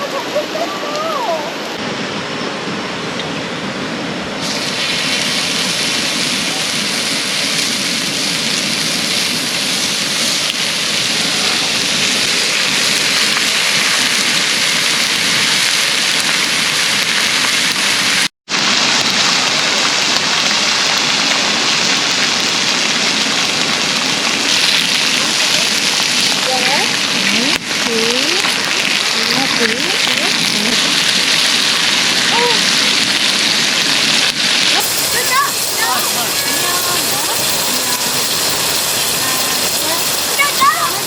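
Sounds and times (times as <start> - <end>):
pork sizzling on a grill: 4.4 - 41.0.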